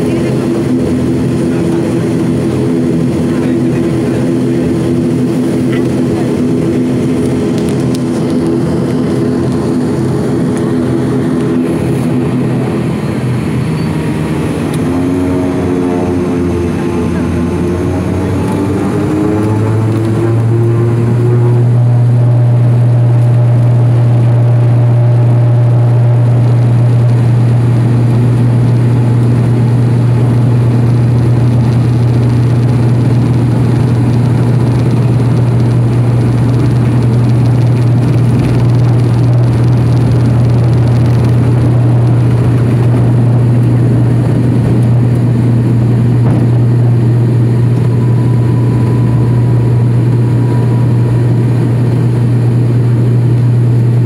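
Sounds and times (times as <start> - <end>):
propeller airliner cabin hum: 0.0 - 54.0
rushing engine and air noise: 0.0 - 54.0.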